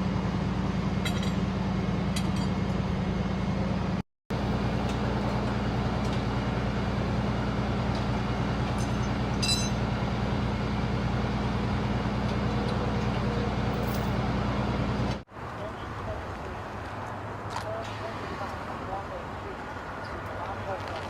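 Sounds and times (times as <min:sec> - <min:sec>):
road noise: 0:00.0 - 0:21.0
vehicle engine humming: 0:00.0 - 0:21.0.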